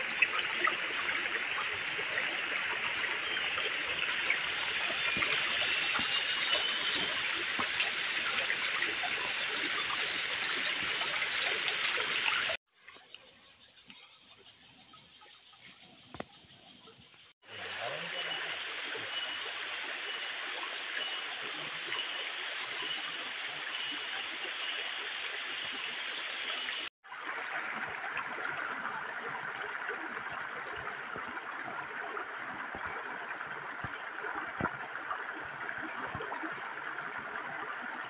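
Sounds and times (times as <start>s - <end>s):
stream trickling over stones: 0.0s - 13.3s, 17.5s - 38.0s.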